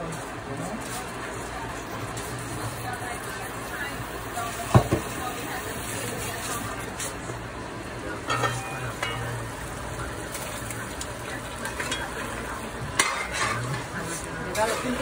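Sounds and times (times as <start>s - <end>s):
liquid bubbling at a boil: 1.0s - 15.0s.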